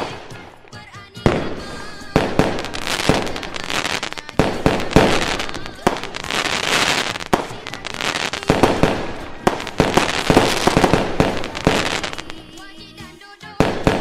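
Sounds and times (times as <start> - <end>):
fireworks bangs: 0.0 - 12.7, 13.6 - 14.0
fireworks crackling: 0.0 - 14.0.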